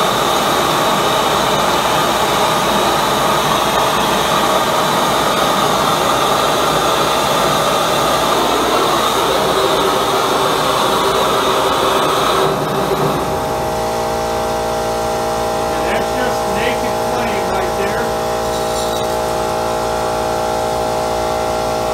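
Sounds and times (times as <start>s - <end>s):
gas burner roaring: 0.0s - 21.9s
multi-tone hum: 0.0s - 21.9s.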